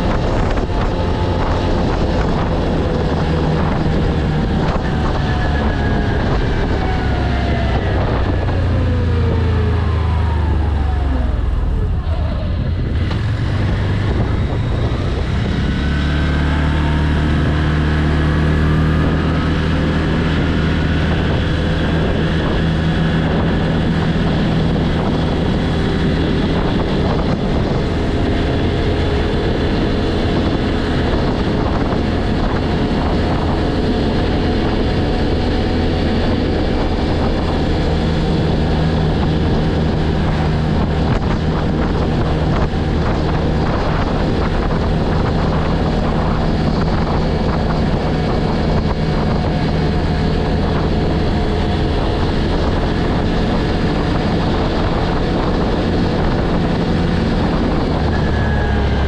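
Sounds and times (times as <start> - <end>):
quad engine accelerating: 0.0 - 59.0
wind noise on microphone: 0.0 - 59.0.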